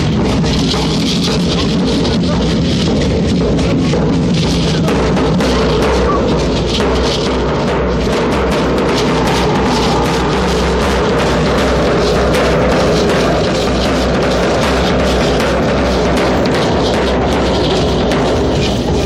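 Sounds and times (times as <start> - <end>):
smaller drum: 0.0 - 19.0.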